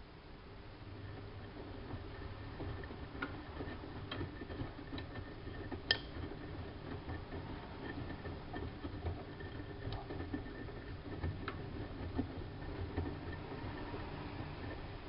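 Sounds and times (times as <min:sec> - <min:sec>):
washing machine humming: 0:00.0 - 0:15.0
faint clicks and knocks: 0:00.9 - 0:15.0.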